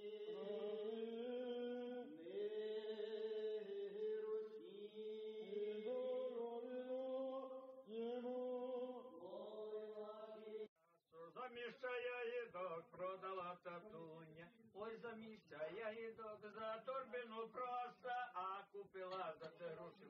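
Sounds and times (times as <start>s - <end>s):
liturgical chant: 0.0s - 14.2s, 14.8s - 20.0s.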